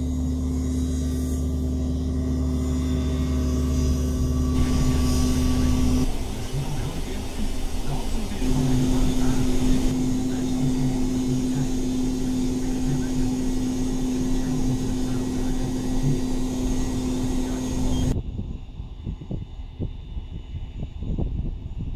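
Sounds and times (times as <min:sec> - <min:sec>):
engine running inside cab: 0:00.0 - 0:18.2.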